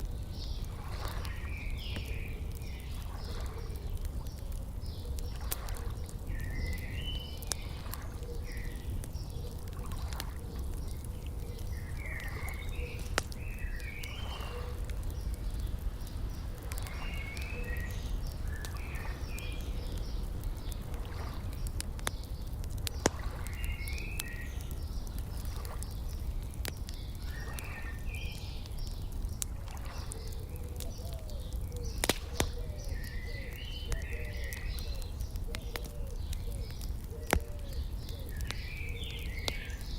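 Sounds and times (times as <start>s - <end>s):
songbird chirping: 0.0s - 39.9s
wood fire crackling and popping: 0.0s - 39.9s.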